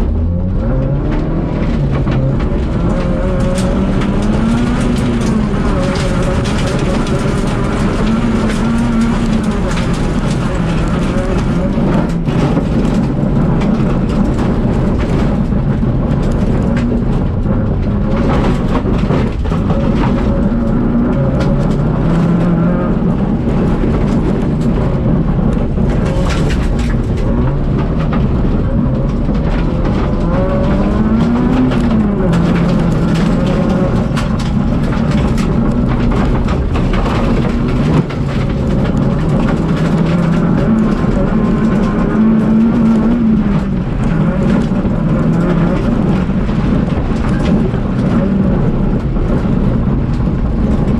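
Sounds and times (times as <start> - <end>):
rally car engine revving: 0.0 - 50.9.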